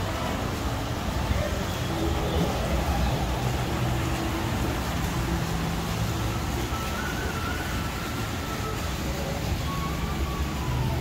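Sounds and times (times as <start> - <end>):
low traffic rumble: 0.0 - 11.0
distant wavering siren: 1.0 - 11.0.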